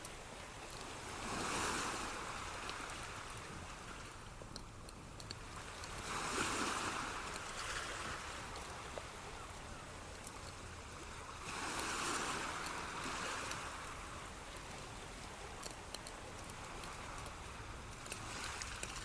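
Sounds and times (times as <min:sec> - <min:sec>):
ocean waves washing in: 0:00.0 - 0:04.2, 0:05.4 - 0:09.3, 0:10.9 - 0:19.0
faint scattered ticks: 0:00.0 - 0:19.0.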